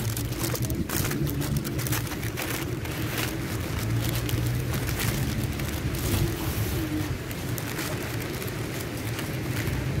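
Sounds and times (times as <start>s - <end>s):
paper wrapper crinkling: 0.0s - 10.0s
street traffic hum: 0.0s - 10.0s.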